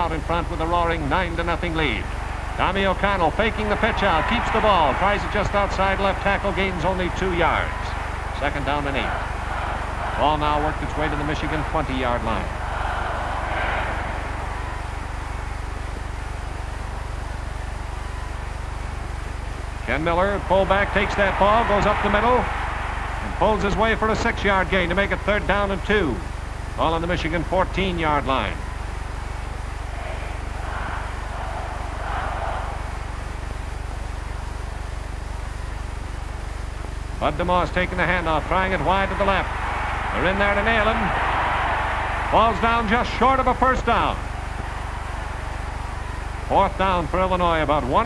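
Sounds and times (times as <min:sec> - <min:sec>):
faint stadium crowd noise: 0:00.0 - 0:48.0
film soundtrack hum and hiss: 0:00.0 - 0:48.0.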